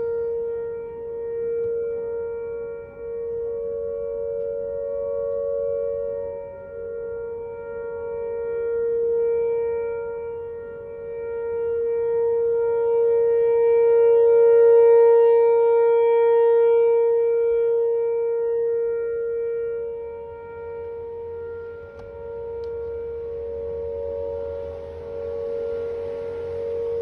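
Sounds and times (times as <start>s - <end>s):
two-tone warning siren: 0.0s - 27.0s.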